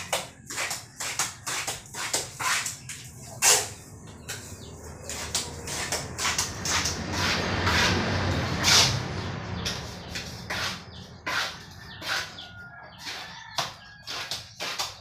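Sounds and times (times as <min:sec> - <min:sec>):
trowel slapping and scraping mortar: 0:00.0 - 0:09.0, 0:09.6 - 0:15.0.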